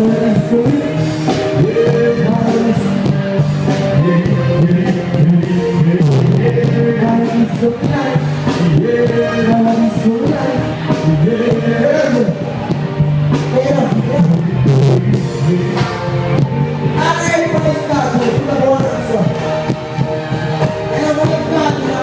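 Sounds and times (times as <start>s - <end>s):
live band playing dancehall: 0.0s - 22.0s
man singing through speakers: 0.0s - 22.0s.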